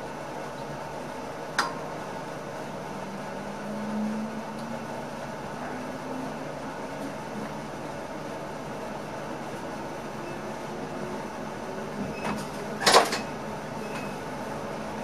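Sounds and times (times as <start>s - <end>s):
electric train running hum: 0.0s - 15.0s.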